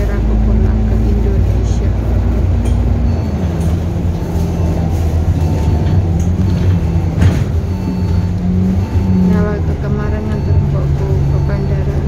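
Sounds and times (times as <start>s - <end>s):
vehicle motor hum: 0.0s - 12.0s.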